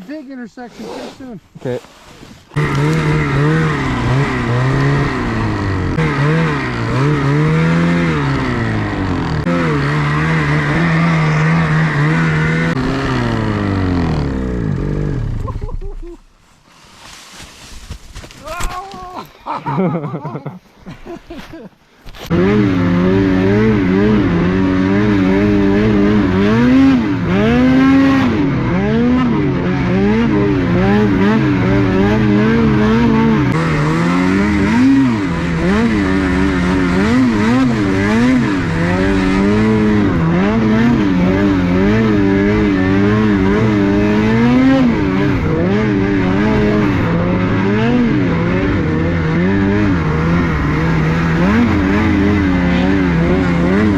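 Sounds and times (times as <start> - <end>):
snowmobile engine revving: 0.0 - 16.2, 17.0 - 21.5, 22.1 - 53.9.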